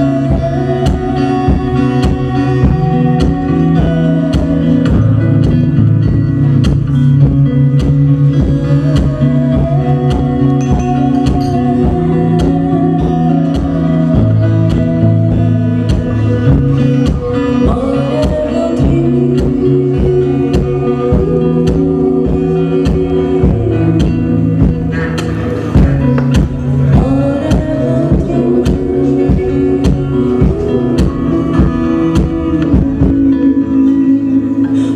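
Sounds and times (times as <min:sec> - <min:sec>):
held melody line: 0:00.0 - 0:34.9
plucked guitar: 0:00.0 - 0:34.9.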